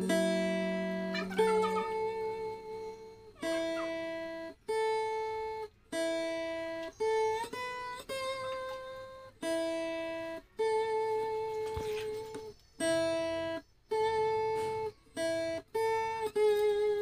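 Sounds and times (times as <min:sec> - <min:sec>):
instrumental music held chords: 0:00.0 - 0:17.0.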